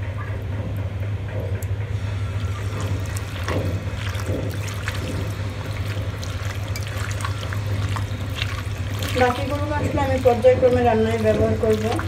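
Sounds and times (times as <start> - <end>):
steady low hum: 0.0 - 12.0
hand squelching wet meat: 2.0 - 12.0.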